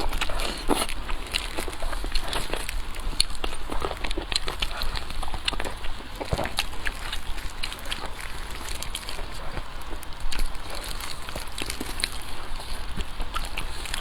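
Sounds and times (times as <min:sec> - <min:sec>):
chewing: 0:00.0 - 0:14.0
clicks and crackles while eating: 0:00.0 - 0:14.0.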